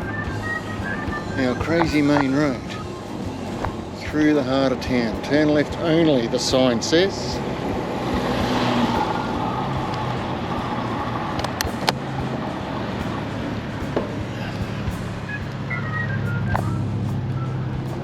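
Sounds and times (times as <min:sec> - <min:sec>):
car passing close by: 0:00.0 - 0:18.0
low hum of vehicle engines: 0:00.0 - 0:18.0.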